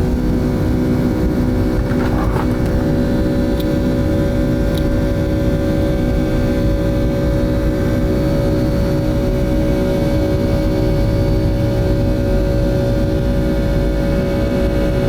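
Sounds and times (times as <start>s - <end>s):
jet engines rumbling: 0.0s - 13.8s.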